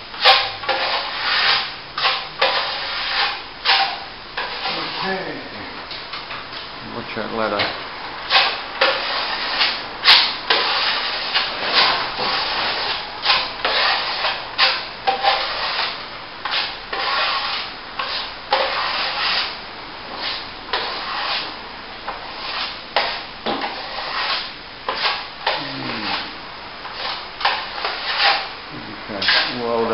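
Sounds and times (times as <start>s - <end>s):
trowel scraping wet plaster: 0.2s - 5.2s, 8.3s - 19.6s, 20.2s - 21.5s, 22.1s - 28.5s, 29.2s - 29.9s.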